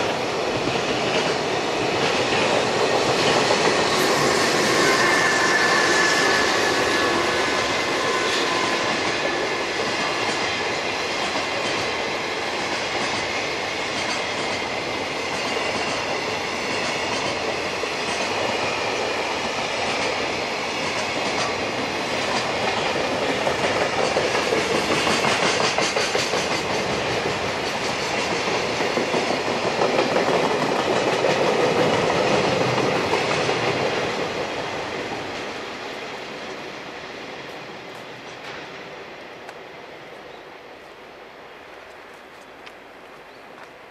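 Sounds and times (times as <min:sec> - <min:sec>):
freight train wheels clattering: 0:00.0 - 0:35.6.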